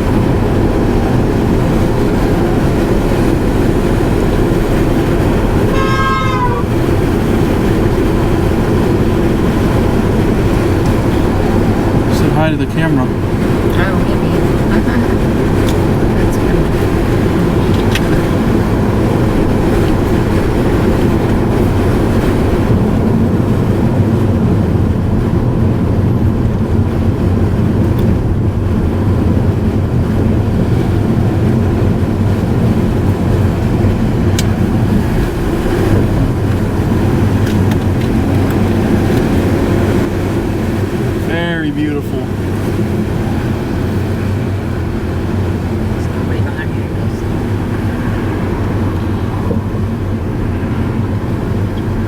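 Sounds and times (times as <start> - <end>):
car road and engine noise: 0.0 - 52.0.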